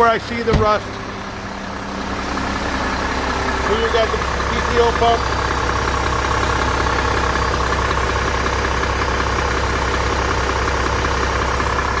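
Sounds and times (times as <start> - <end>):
garbage truck engine idling: 0.0 - 12.0.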